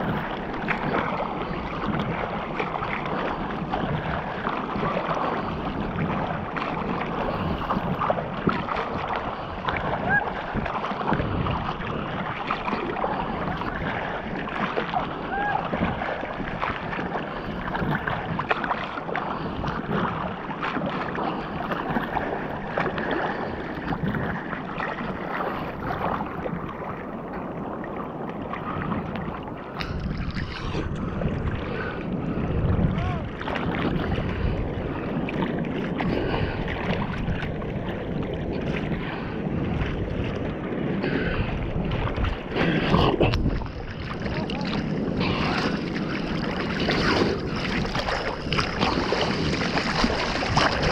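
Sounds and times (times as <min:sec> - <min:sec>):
sea water sloshing and splashing: 0:00.0 - 0:50.9
wind on microphone: 0:00.0 - 0:50.9.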